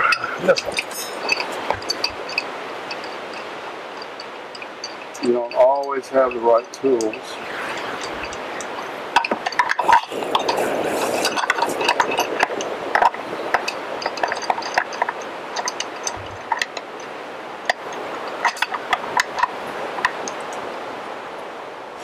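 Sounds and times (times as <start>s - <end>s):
wrench clinking on metal bolt: 0.0s - 20.4s.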